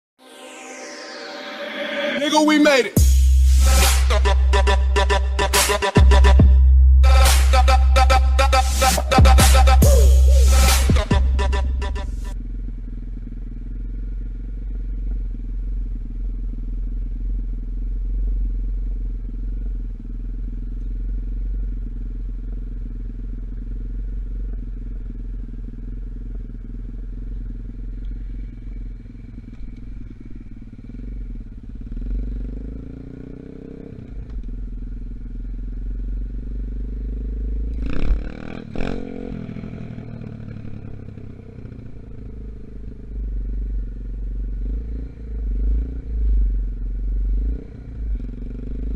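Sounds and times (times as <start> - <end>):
dirt bike engine running: 3.0 - 48.9.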